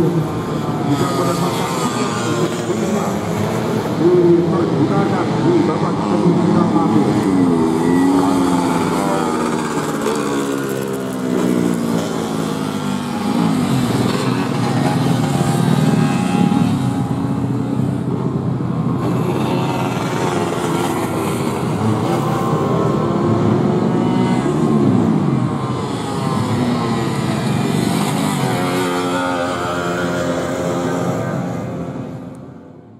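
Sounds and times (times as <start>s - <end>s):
racing motorcycle engines revving: 0.0s - 32.9s.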